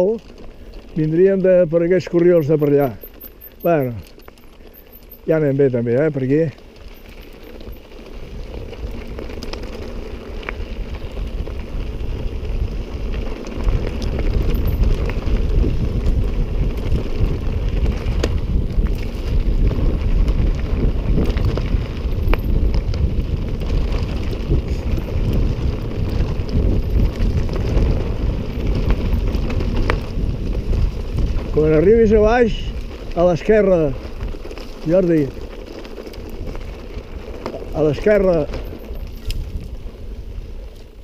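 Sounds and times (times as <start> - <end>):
bike clicks and knocks: 0.0 - 31.9, 33.0 - 40.0
mountain bike rolling on dirt: 0.0 - 41.0
wind buffeting microphone: 5.2 - 41.0.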